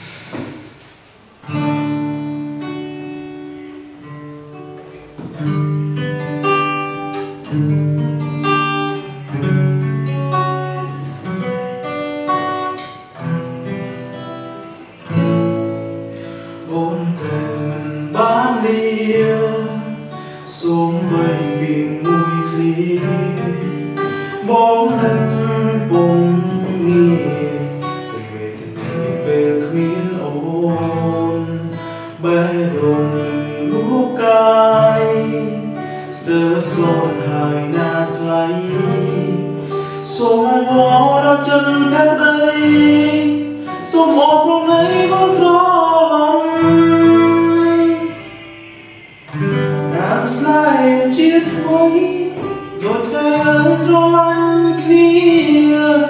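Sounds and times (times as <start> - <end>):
acoustic guitar chords: 0.0 - 56.0.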